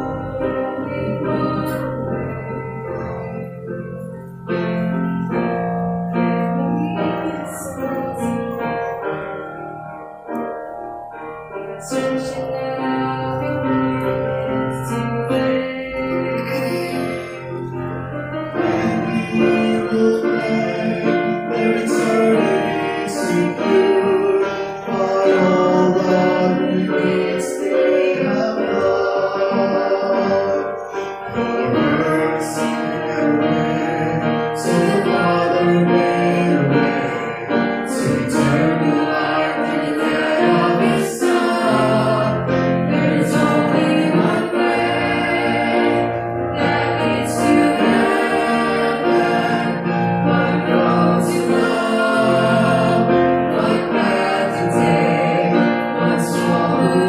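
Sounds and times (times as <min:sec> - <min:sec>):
vocal trio singing: 0:00.0 - 0:04.1, 0:06.2 - 0:09.2, 0:11.8 - 0:57.0
keyboard accompaniment: 0:00.0 - 0:57.0.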